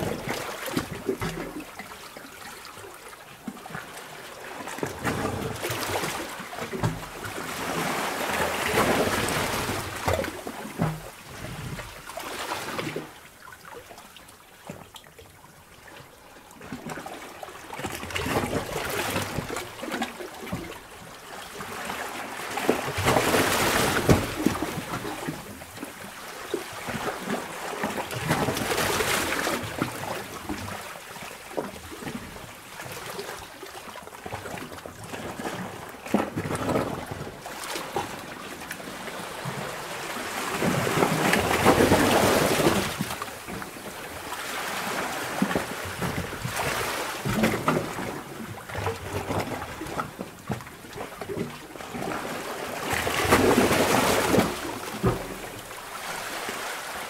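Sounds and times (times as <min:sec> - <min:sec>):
seawater surging in cave: 0:00.0 - 0:14.4, 0:15.7 - 0:57.0.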